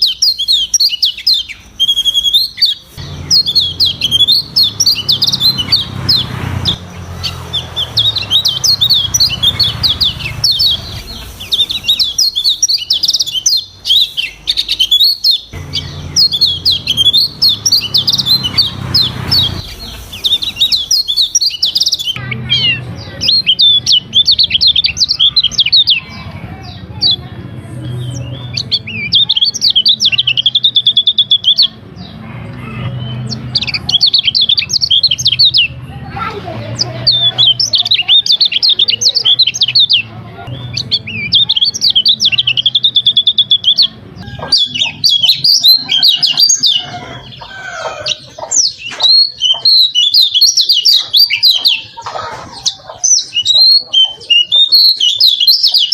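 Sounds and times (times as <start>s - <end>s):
bird twittering song: 0.0s - 55.9s.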